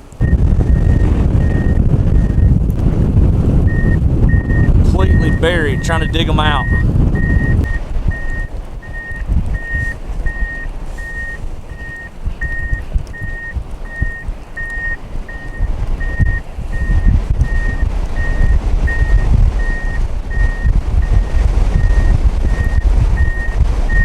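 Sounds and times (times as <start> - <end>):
low engine rumble: 0.0 - 24.0
backup alarm beeping: 0.2 - 2.6, 3.6 - 24.0.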